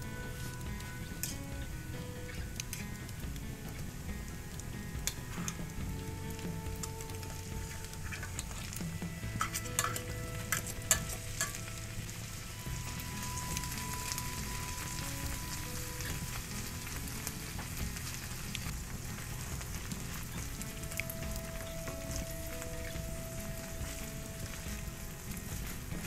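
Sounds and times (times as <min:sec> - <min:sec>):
onions sizzling in frying pan: 0:00.0 - 0:26.0.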